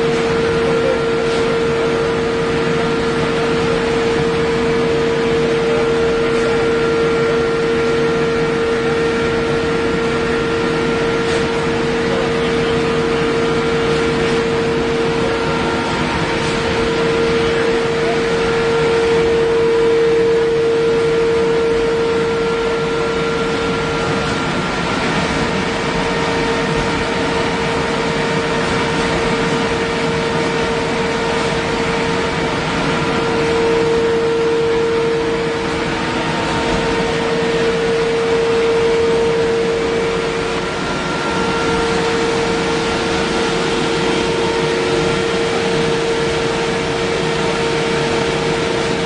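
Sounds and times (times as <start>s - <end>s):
industrial machine humming: 0.0s - 49.0s.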